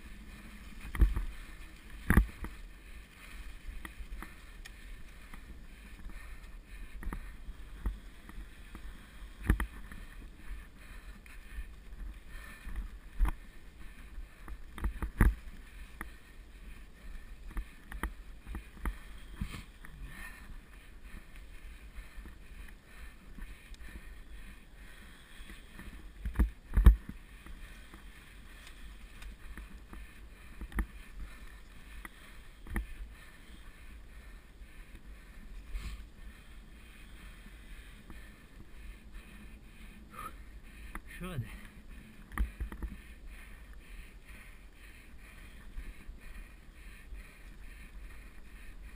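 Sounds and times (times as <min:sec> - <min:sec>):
bike low rumble: 0:00.0 - 0:48.9.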